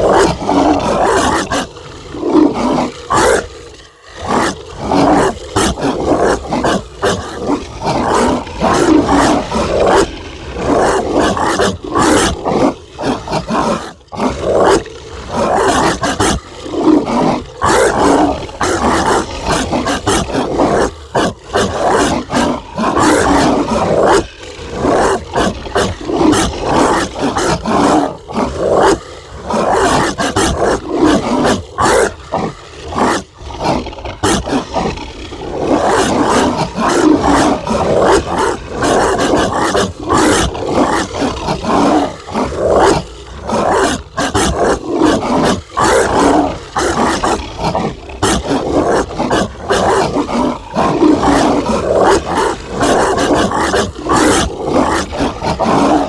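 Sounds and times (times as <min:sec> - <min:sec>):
dog growling barks and snarls: 0:00.0 - 0:56.0.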